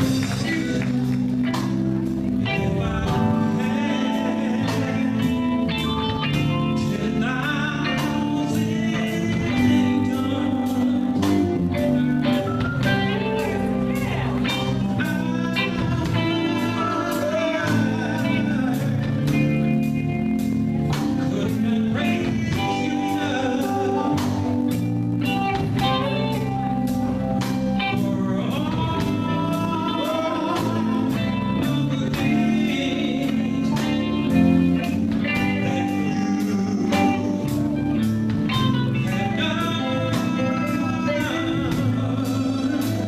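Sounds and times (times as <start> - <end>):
bass guitar: 0.0 - 43.0
electric guitar: 0.0 - 43.0
person singing: 0.0 - 43.0
steady drum beat: 0.0 - 43.0.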